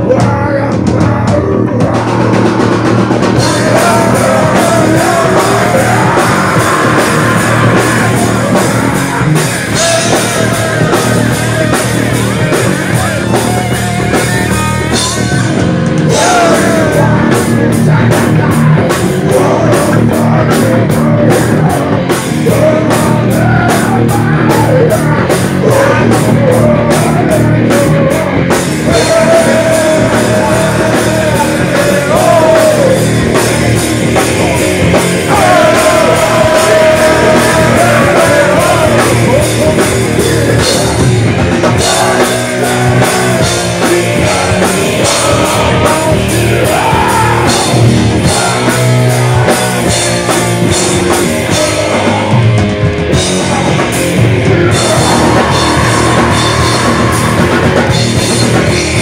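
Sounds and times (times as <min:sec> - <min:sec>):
drum kit: 0:00.0 - 0:59.0
electric guitar: 0:00.0 - 0:59.0
person singing: 0:00.0 - 0:59.0.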